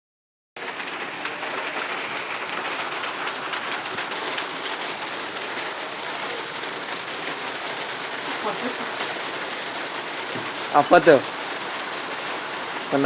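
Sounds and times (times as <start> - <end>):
heavy rain: 0.6 - 13.0.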